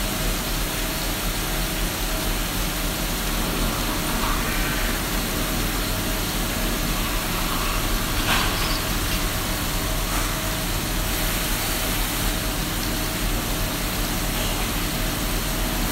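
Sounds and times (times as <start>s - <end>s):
coolant hissing and splashing: 0.0s - 15.9s
machine hum: 0.6s - 15.9s.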